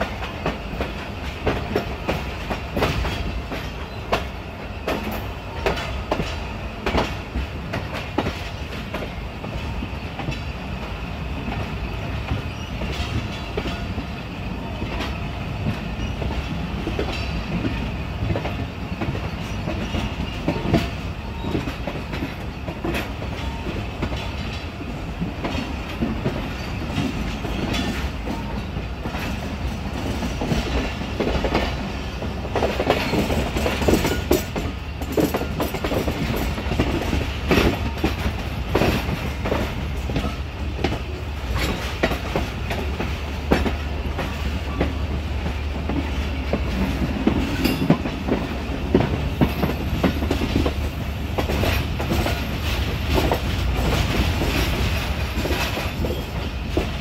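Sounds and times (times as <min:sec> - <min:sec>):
train coach rumble: 0:00.0 - 0:57.0
wheels clacking over rail joints: 0:00.0 - 0:57.0.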